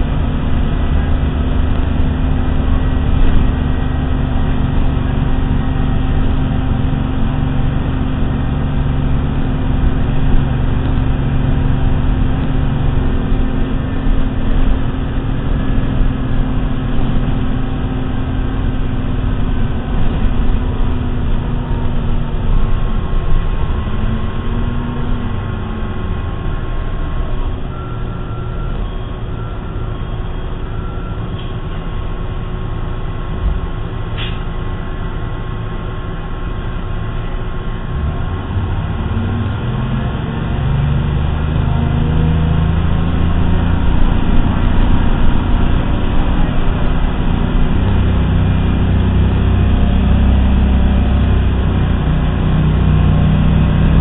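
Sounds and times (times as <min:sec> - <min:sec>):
bus diesel engine droning: 0:00.0 - 0:54.0.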